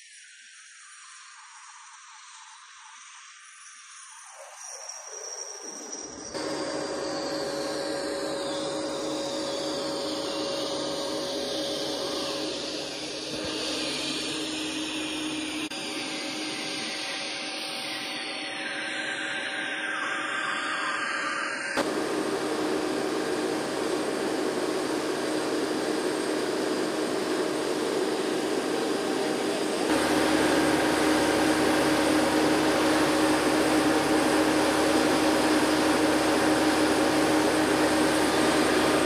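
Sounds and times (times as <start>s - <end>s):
aircraft machinery whining hum: 6.4s - 39.0s.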